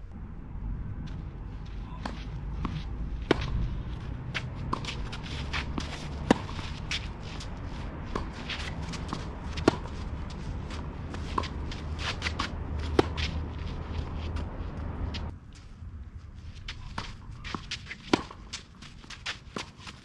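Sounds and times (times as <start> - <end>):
shoes sliding on clay: 1.7 - 15.7, 16.4 - 20.0
racket striking tennis ball: 2.0 - 15.3, 16.9 - 20.0.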